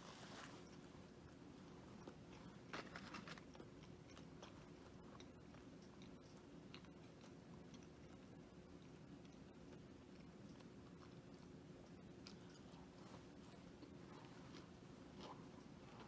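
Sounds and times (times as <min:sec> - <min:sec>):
faint steady hum: 0:00.0 - 0:16.0
person chewing food: 0:00.1 - 0:16.0.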